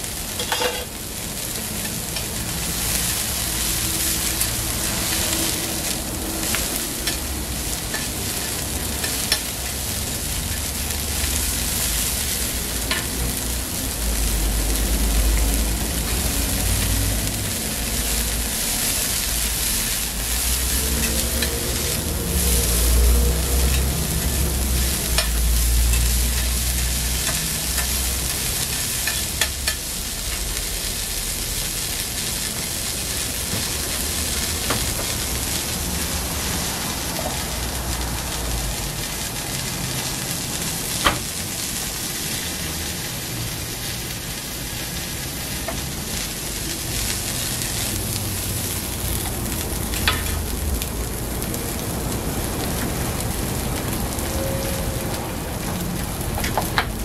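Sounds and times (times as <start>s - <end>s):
food sizzling on griddle: 0.0s - 57.0s
metal spatula stirring on griddle: 0.1s - 38.3s, 39.0s - 50.6s.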